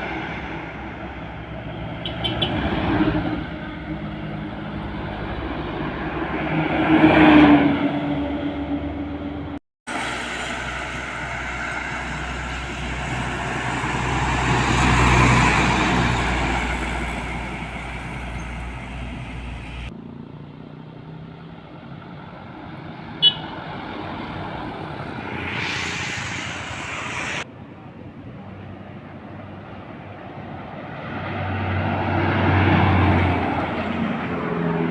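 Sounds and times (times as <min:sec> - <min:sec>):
heavy trucks passing: 0:00.0 - 0:27.5, 0:28.1 - 0:34.9.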